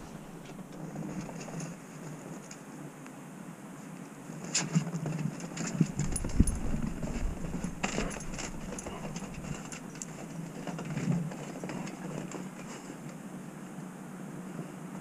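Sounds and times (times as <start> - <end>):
rustles: 0.0 - 15.0.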